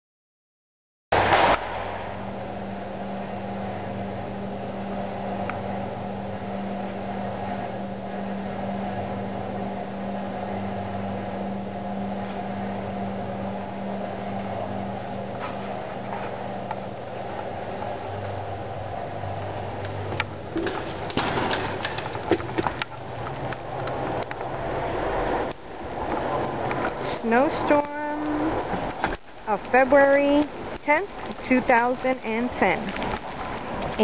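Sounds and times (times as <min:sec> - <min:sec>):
low two-tone hum: 0:01.1 - 0:34.0
constant hiss: 0:01.2 - 0:34.0.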